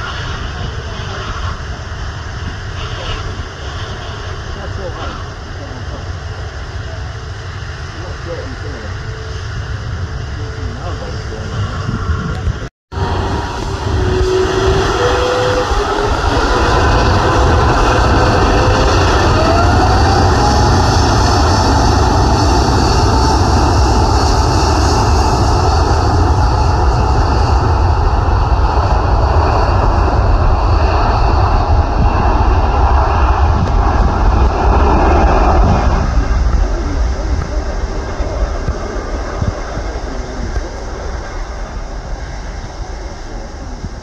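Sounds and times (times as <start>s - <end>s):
jet engine whine: 0.0s - 44.0s
jet engines roaring: 0.0s - 44.0s.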